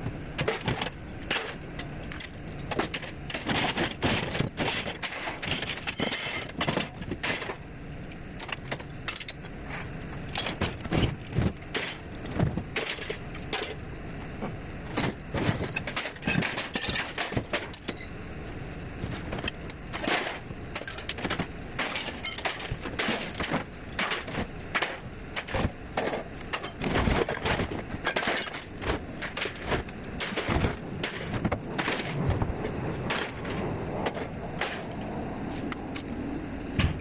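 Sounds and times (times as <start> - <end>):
scrap metal clattering and crashing: 0.4 - 7.6, 8.4 - 13.8, 14.4 - 18.1, 19.0 - 35.0.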